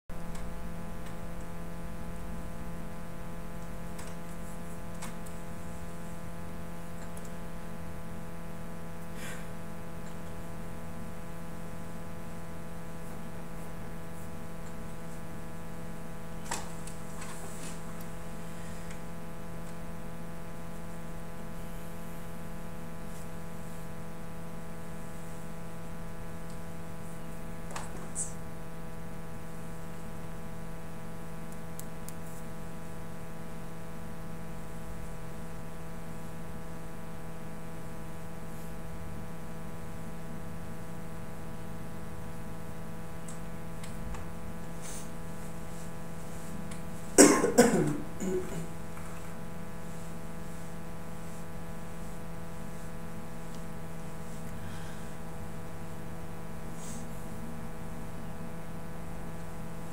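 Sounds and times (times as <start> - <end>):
low electrical hum: 0.1 - 59.9.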